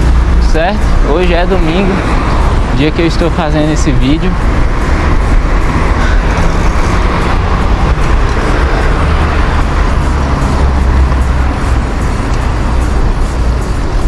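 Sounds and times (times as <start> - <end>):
town traffic: 0.0 - 14.0
wind and road noise: 0.0 - 14.0.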